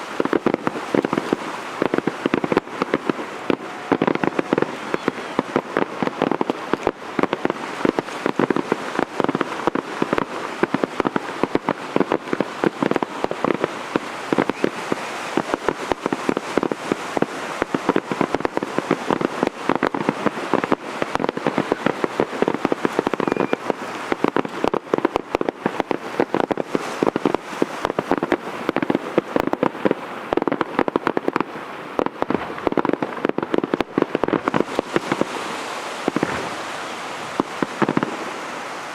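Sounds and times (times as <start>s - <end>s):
fireworks popping and crackling: 0.0s - 38.9s.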